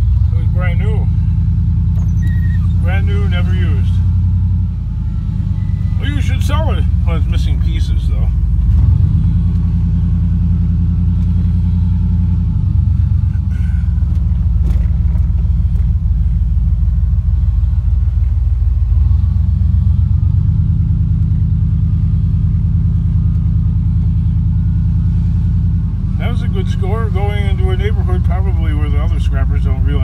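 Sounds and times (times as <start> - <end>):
road rumble: 0.0 - 30.0
vehicle engine: 0.0 - 30.0.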